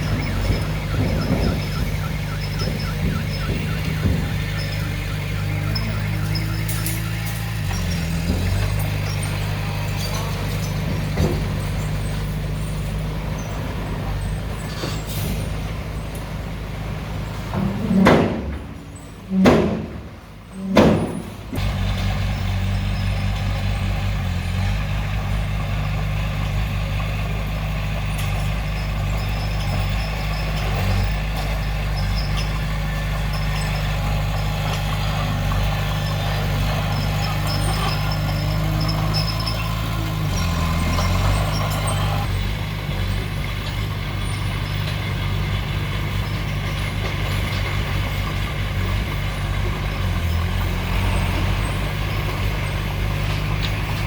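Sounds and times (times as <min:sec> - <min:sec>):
loud engine bursts: 0:00.0 - 0:16.1, 0:16.8 - 0:54.0
diesel machinery running: 0:00.0 - 0:54.0.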